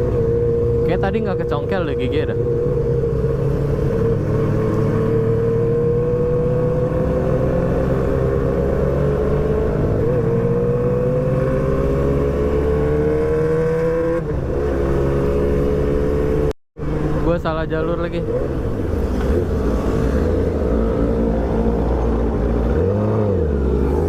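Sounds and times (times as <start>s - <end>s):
motorcycle engine accelerating: 2.3s - 17.2s, 18.3s - 24.0s.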